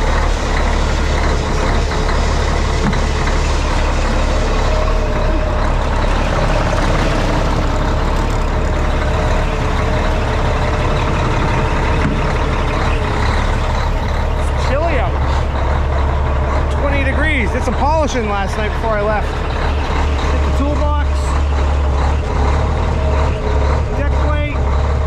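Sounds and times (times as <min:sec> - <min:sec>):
diesel truck engine rumbling: 0:00.0 - 0:25.0.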